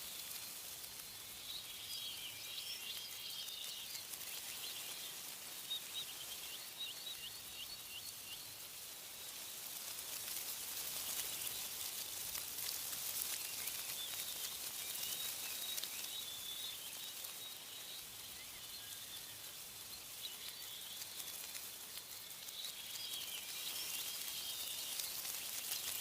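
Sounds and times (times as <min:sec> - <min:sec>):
small songbirds chirping: 0:00.0 - 0:26.0
wind in tree leaves: 0:00.0 - 0:26.0.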